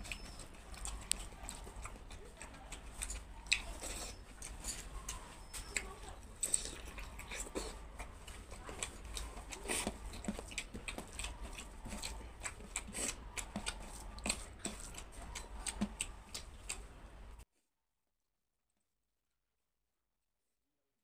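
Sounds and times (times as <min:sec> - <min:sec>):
fingers squishing wet rice: 0:00.0 - 0:17.4.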